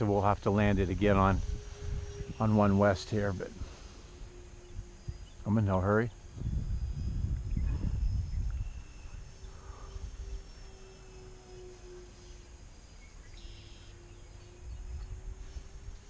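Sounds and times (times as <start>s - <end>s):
wind on microphone: 0.0s - 12.5s, 14.0s - 16.0s
model airplane motor drone: 0.0s - 16.0s.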